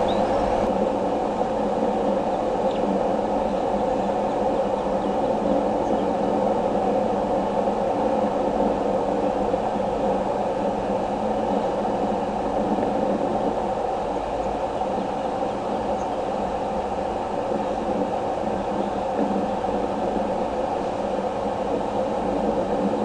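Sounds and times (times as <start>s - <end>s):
steady low rushing noise: 0.0s - 23.0s.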